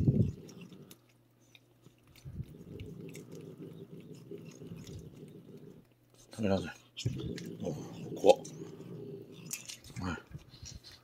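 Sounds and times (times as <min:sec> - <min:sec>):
cat licking and chewing: 0:00.0 - 0:11.0.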